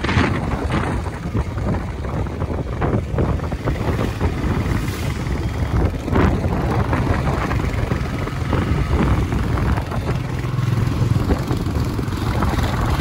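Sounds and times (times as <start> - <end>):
motorcycle engine running: 0.0 - 13.0
wind on microphone: 0.0 - 13.0.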